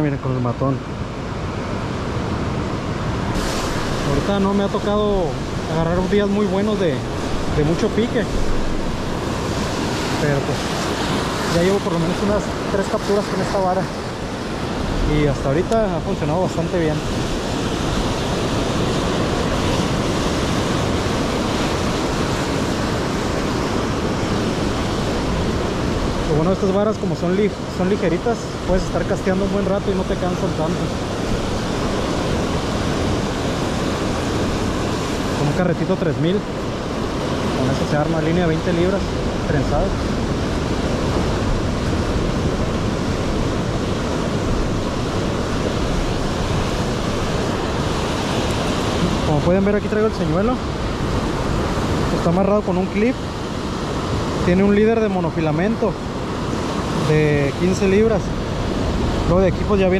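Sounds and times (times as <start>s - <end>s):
sea surf rushing: 0.0s - 59.9s
wind buffeting microphone: 1.0s - 59.9s.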